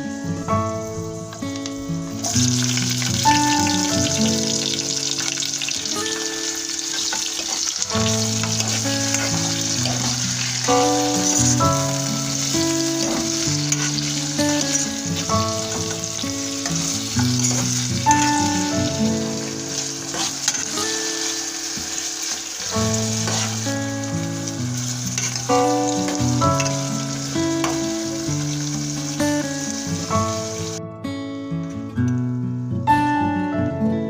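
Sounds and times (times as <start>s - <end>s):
plucked background music: 0.0s - 34.0s
food sizzling in a pan: 0.6s - 30.8s.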